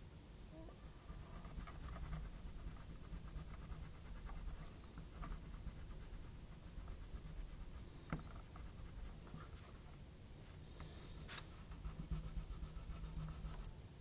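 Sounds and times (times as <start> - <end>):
pencil scratching on paper: 0.8 - 9.9, 11.0 - 13.7.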